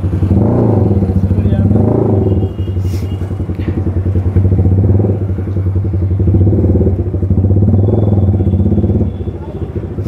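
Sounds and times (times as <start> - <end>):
motorcycle exhaust at low revs: 0.0 - 10.0.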